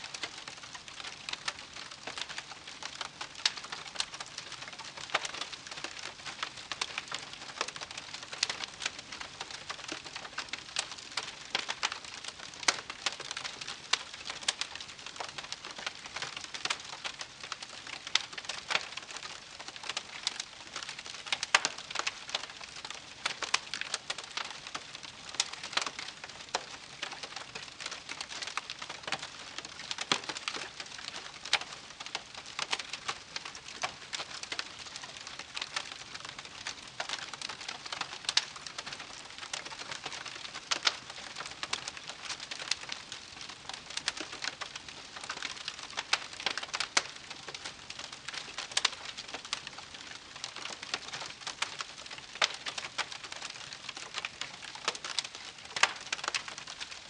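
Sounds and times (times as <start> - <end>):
campfire crackling: 0.1 - 57.0.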